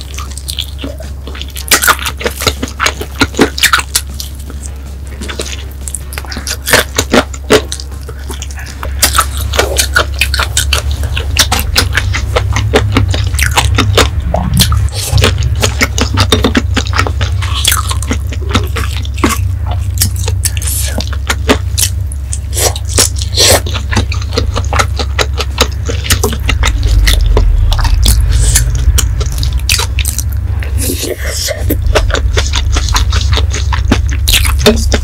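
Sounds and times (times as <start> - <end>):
person chewing and biting food: 0.0 - 35.0
steady low hum: 0.0 - 35.0.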